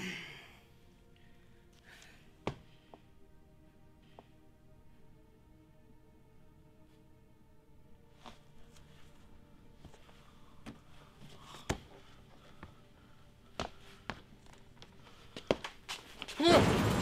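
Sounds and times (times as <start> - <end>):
faint low hum: 0.0 - 15.4.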